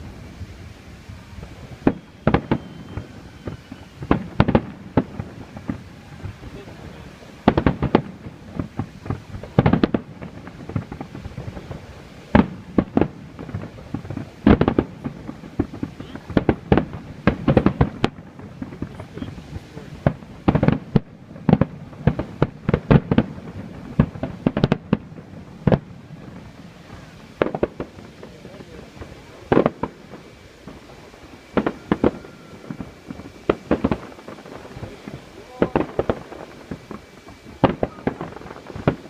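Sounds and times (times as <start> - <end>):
firework shells bursting: 1.3 - 39.0.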